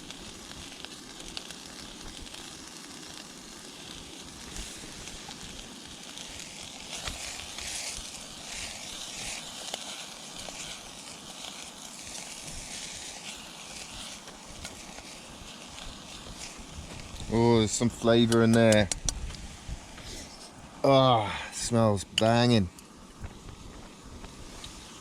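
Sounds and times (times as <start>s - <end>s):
food sizzling in a hot pan: 0.0s - 21.7s, 22.9s - 25.0s.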